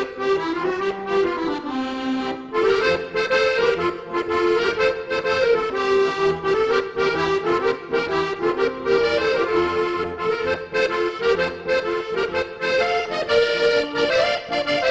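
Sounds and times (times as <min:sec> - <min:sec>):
instrumental background music: 0:00.0 - 0:14.9.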